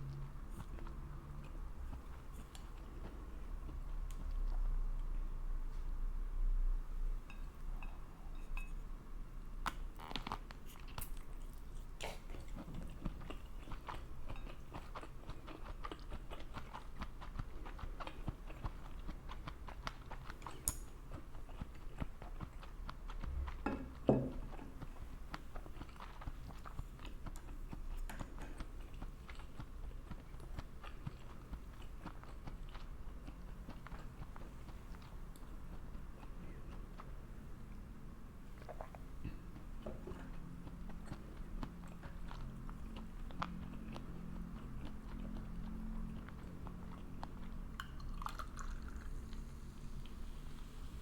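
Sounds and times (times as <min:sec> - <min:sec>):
person chewing food: 0:00.0 - 0:05.2, 0:09.6 - 0:51.0.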